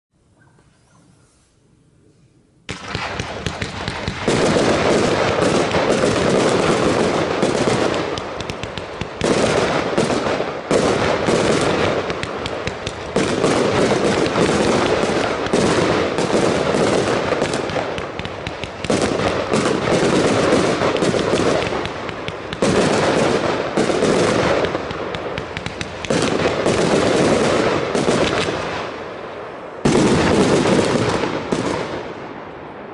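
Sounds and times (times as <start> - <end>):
firework barrage: 2.6 - 32.9.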